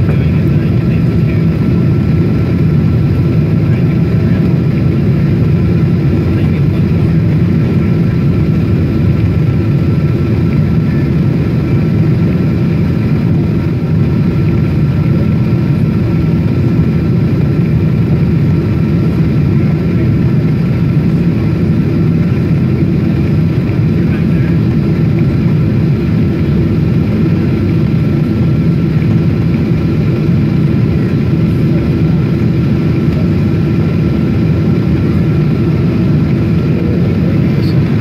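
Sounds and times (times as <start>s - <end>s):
jet engine and rushing air rumble: 0.0s - 38.0s.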